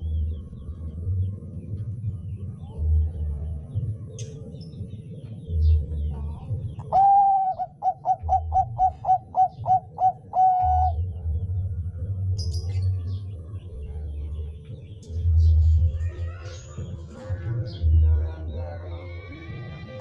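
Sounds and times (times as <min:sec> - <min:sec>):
dove singing: 0:00.0 - 0:20.0
low rumbling pulses: 0:00.0 - 0:20.0.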